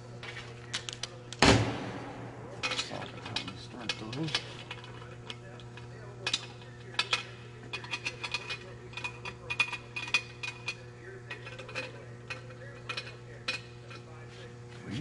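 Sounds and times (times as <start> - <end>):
low hum: 1.3 - 14.0.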